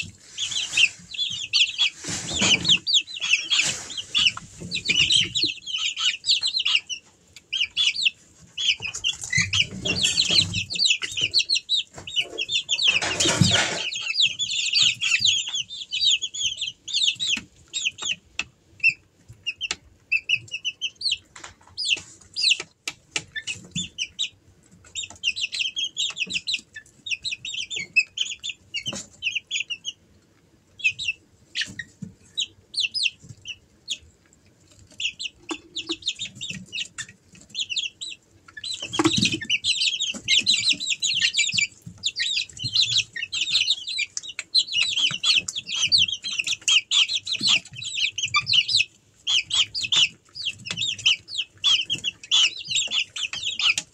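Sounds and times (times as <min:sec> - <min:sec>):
chicks peeping: 0:00.0 - 0:53.9
chicks scuffling on straw: 0:00.0 - 0:53.9.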